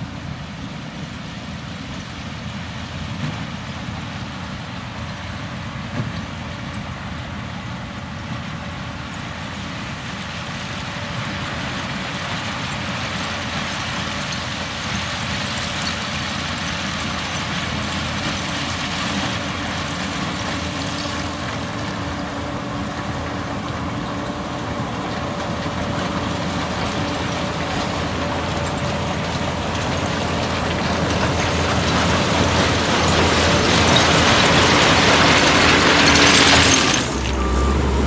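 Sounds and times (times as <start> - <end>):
heavy diesel engine running: 2.2 - 38.0.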